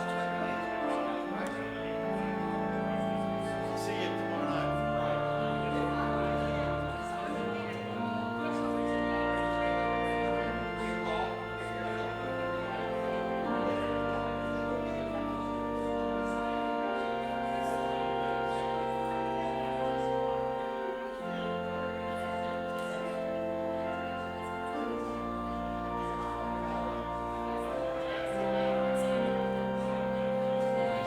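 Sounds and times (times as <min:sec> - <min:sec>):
slow sustained chord music: 0:00.0 - 0:31.0.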